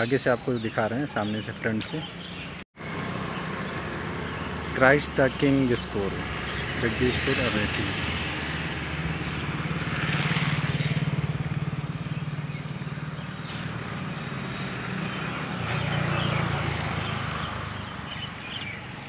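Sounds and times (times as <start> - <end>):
vehicles passing: 0.0 - 19.0
vehicle engine running: 2.0 - 19.0.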